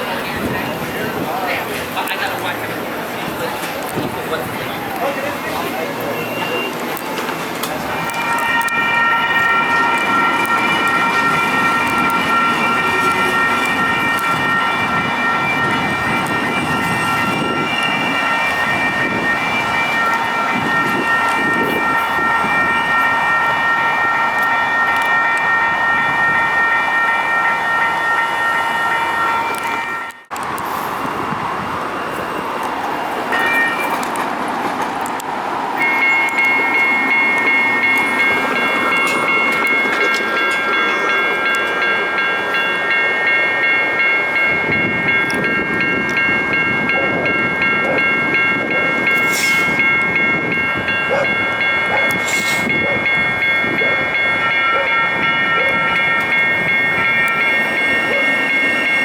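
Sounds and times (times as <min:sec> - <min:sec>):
crossing warning bell ringing: 0:00.0 - 0:59.0
passing train rumble: 0:00.0 - 0:59.0.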